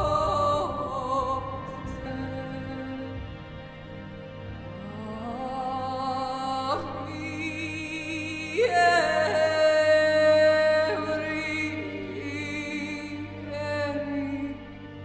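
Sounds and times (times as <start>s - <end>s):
slow music with held notes: 0.0s - 15.0s.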